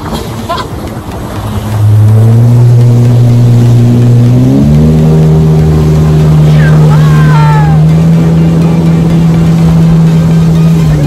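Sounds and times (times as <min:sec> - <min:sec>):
jet ski engine: 0:00.0 - 0:11.0.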